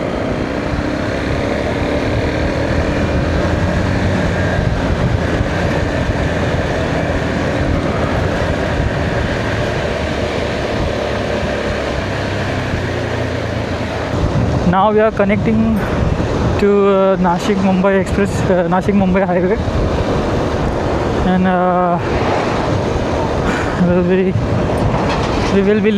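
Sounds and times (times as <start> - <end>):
motorcycle engine running: 0.0 - 21.2
wind noise on microphone: 0.0 - 25.9.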